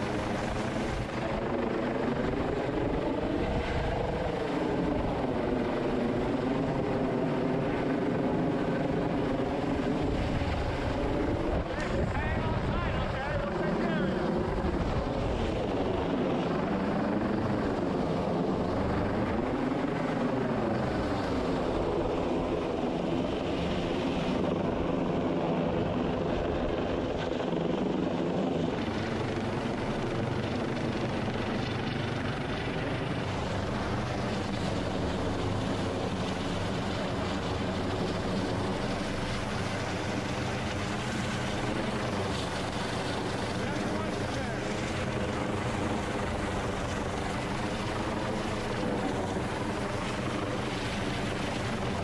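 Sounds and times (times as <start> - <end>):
helicopter rotor and turbine: 0.0 - 52.0.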